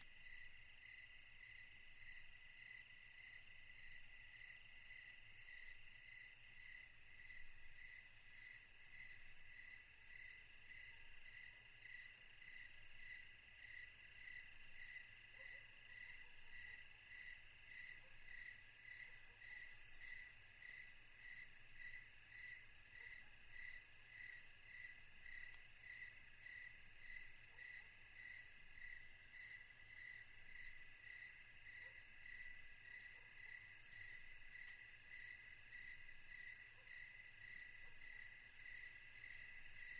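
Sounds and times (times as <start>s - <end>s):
insect chorus pulsing: 0.0s - 39.9s.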